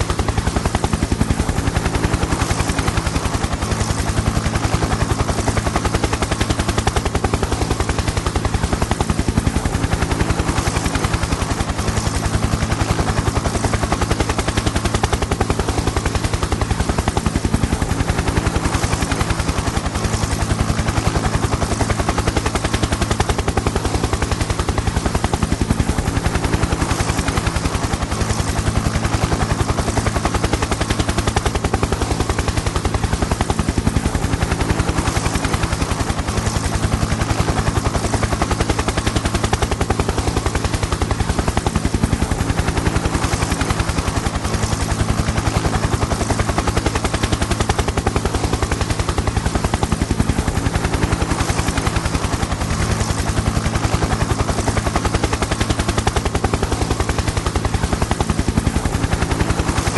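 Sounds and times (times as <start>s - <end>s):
turbine drone: 0.0s - 59.9s.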